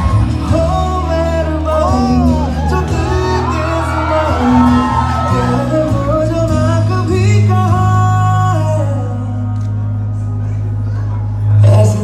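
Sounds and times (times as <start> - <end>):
person singing: 0.0 - 9.6
long low bass notes: 0.0 - 12.0.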